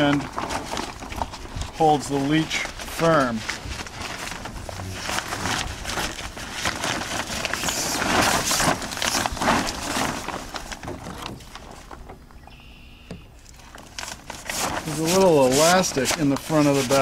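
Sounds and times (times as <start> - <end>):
sailcloth rustling and crinkling: 0.0 - 12.5, 13.3 - 17.0.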